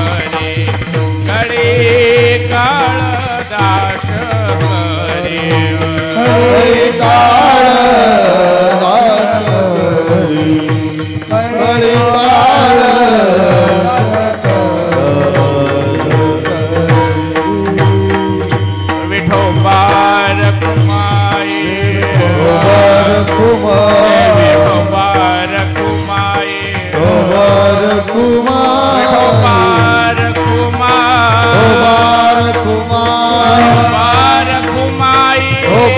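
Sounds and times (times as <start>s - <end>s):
drum strokes: 0.0s - 35.9s
person singing devotional song: 0.0s - 35.9s.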